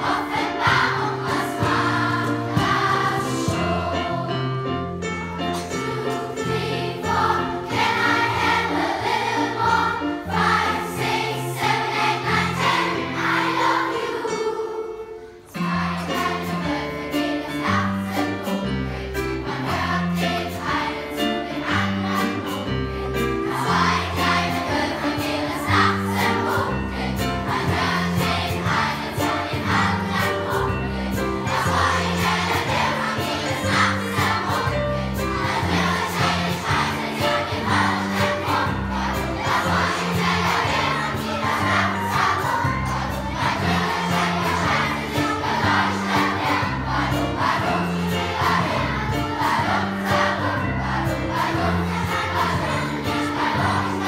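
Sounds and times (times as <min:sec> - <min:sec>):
children's choir singing: 0:00.0 - 0:54.0
instrumental accompaniment: 0:00.0 - 0:54.0.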